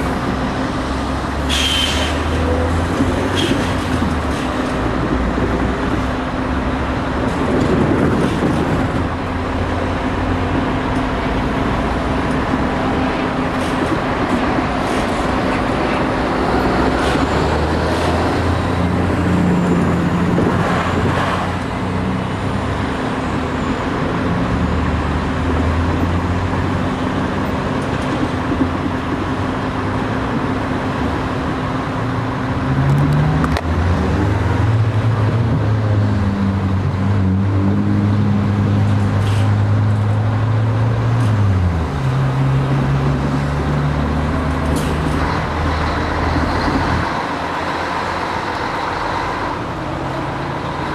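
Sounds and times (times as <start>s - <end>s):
electric train rumbling: 0.0s - 50.9s.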